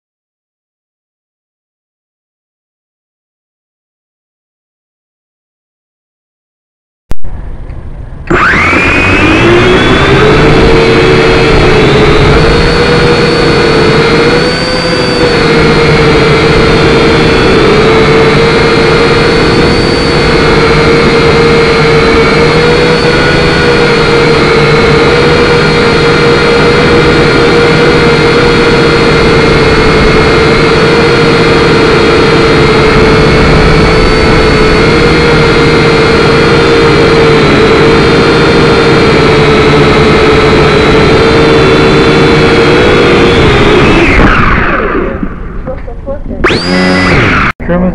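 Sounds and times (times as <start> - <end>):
quadcopter motors whining: 8.2 - 47.6.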